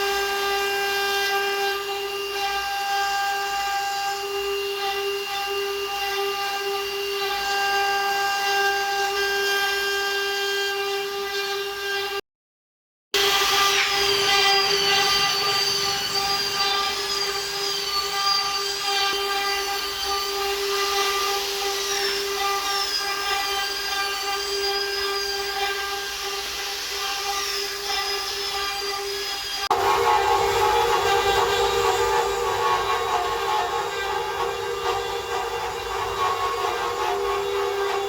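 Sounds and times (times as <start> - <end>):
router spindle high-pitched whine: 0.0 - 12.2, 13.2 - 38.0.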